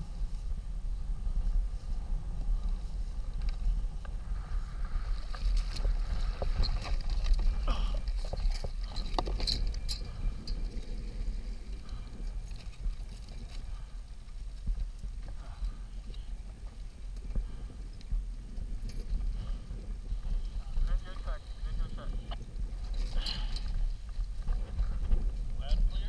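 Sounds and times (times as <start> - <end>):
low rumble of wind and water: 0.0 - 26.0.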